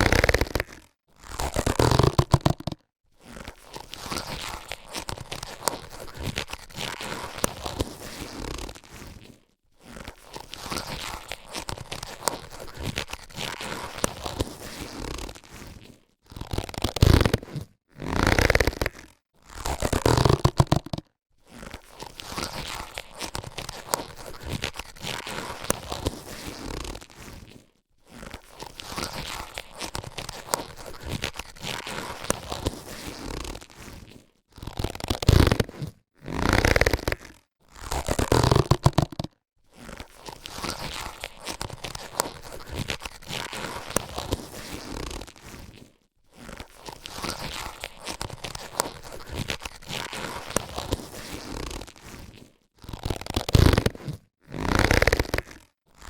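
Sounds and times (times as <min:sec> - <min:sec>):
latex gloves crackling: 0:00.0 - 0:56.0.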